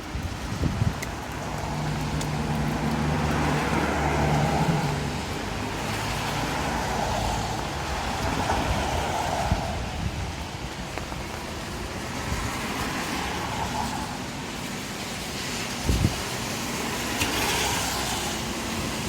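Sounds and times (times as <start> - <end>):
tyre noise on road: 0.0 - 19.0.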